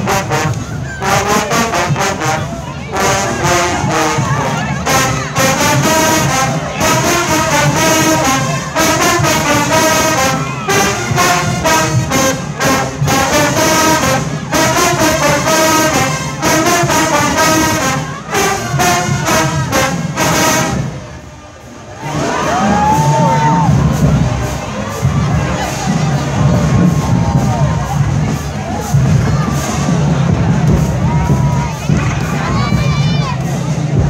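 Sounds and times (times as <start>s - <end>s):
steady drum beat: 0.0s - 21.1s, 22.4s - 34.0s
marching band brass playing: 0.0s - 34.0s.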